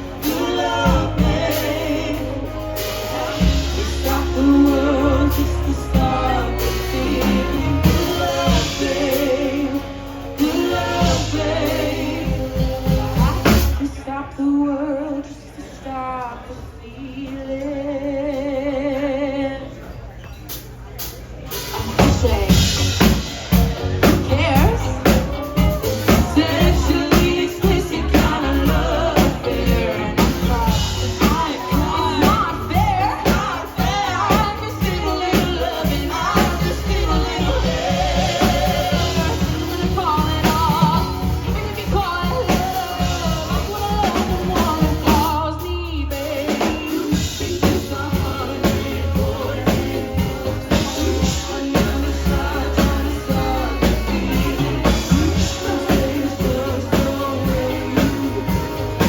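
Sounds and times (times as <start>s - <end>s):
drum kit: 0.0s - 13.9s, 20.5s - 59.0s
bass guitar: 0.0s - 14.0s, 21.5s - 59.0s
person singing: 0.0s - 15.4s, 21.9s - 59.0s.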